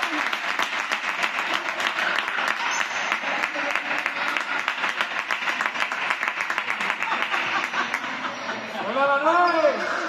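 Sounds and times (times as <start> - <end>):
spectators applauding: 0.0 - 8.2
crowd voices: 0.0 - 10.0.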